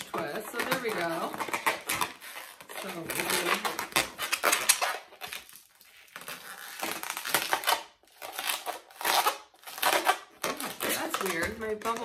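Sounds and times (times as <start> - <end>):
balloon squeaking and rubbing: 0.0 - 12.0.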